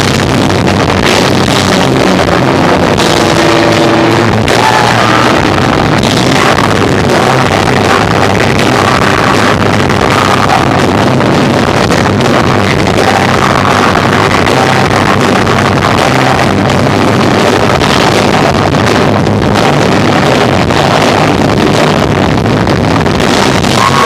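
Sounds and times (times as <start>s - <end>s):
distorted rock band playing: 0.0s - 24.0s.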